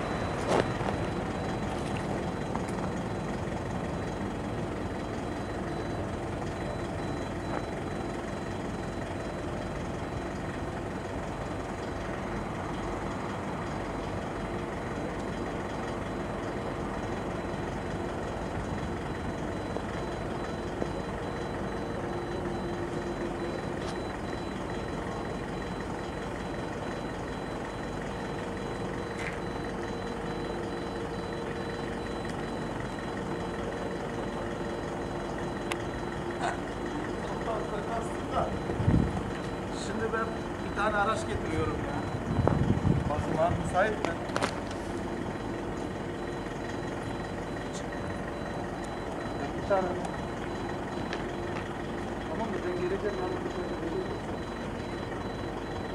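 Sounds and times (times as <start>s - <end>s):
faint high beeping: 0.0s - 10.3s, 19.0s - 44.0s, 45.2s - 55.9s.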